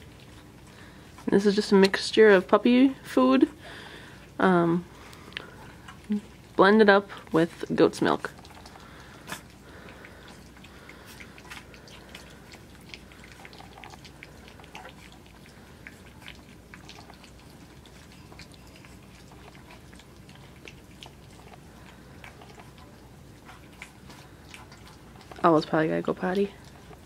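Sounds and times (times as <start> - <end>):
puppies lapping food: 0.0 - 27.0.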